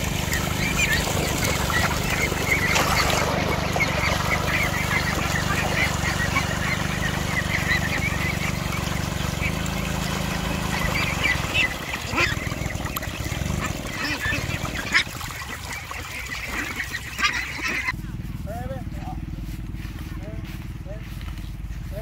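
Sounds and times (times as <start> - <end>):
domestic fowl calling: 0.0 - 18.3.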